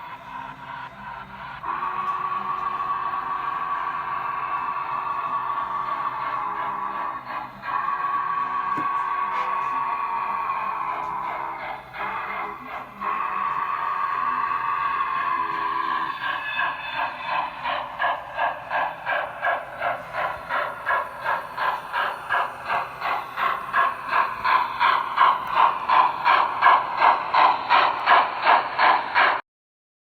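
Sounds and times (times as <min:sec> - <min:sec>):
steam locomotive chuffing: 0:00.0 - 0:29.4.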